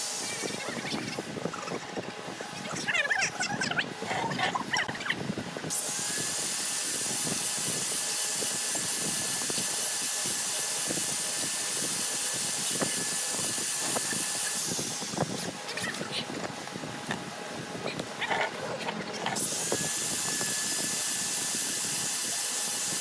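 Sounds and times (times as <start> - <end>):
power tool hissing and whining: 0.0 - 2.6, 5.6 - 18.2, 19.4 - 23.0.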